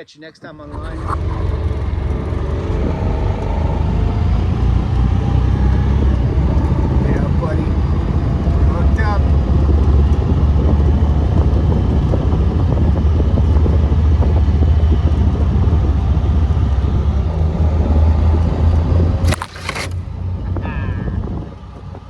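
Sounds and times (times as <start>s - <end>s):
vehicle engine low rumble: 0.4s - 22.0s.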